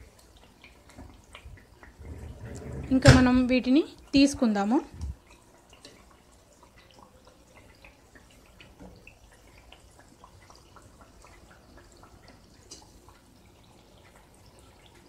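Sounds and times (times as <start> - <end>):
hot oil sizzling and popping: 0.0 - 2.0, 2.8 - 15.0.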